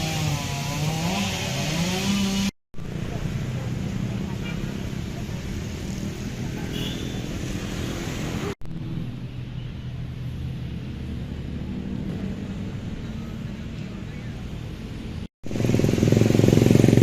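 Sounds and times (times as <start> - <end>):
street traffic engines droning: 0.0 - 17.0.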